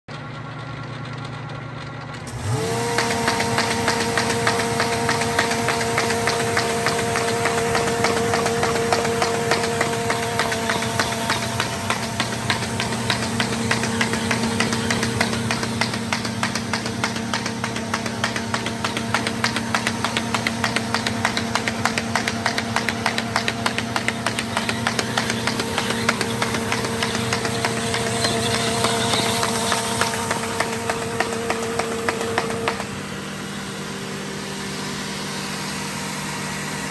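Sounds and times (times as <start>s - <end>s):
motor whine: 0.3s - 36.9s
rapid ticking of paper feeding: 2.7s - 33.1s.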